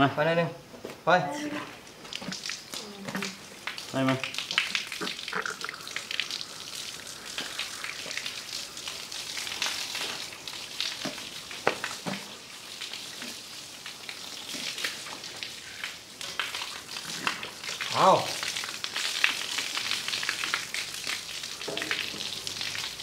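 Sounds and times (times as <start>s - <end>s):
liquid spattering and hissing: 1.6s - 23.0s.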